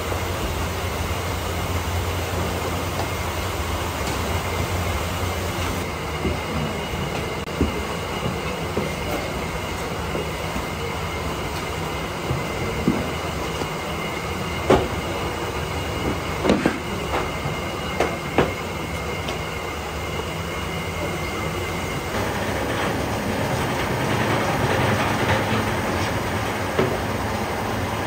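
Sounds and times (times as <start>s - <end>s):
workshop machinery drone: 0.0s - 28.0s.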